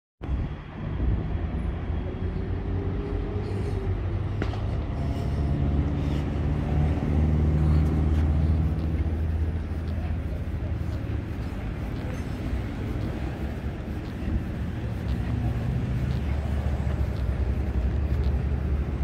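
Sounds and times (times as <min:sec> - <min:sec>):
vehicle engine running: 0:02.6 - 0:19.0.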